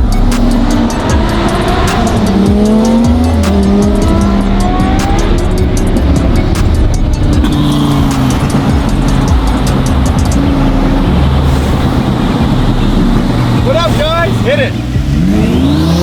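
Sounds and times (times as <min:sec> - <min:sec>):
car engine accelerating: 0:00.0 - 0:16.0
music playing: 0:00.0 - 0:16.0.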